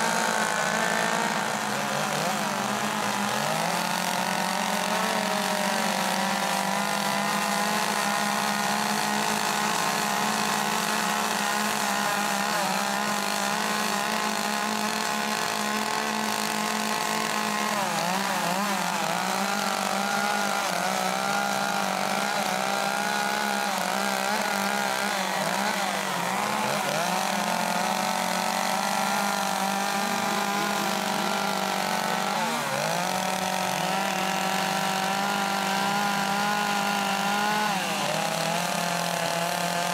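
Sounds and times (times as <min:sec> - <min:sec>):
chainsaws cutting wood: 0:00.0 - 0:39.9.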